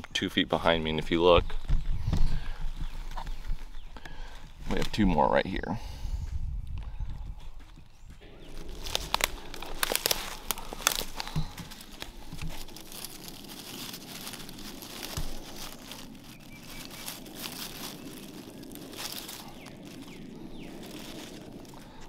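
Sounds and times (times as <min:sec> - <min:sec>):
dry leaves crackling and rustling: 0:00.0 - 0:05.3, 0:08.2 - 0:22.0.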